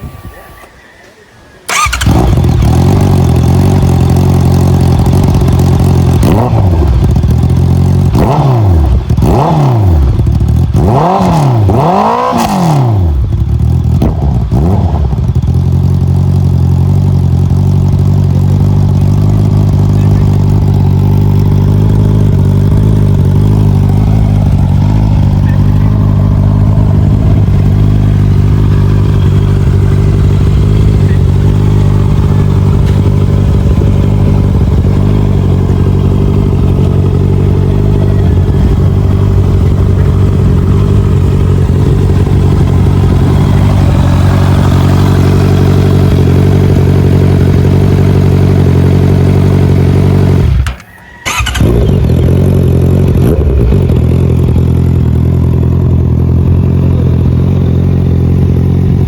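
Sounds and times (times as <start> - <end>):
motorcycle engine idling: 1.7 - 59.0.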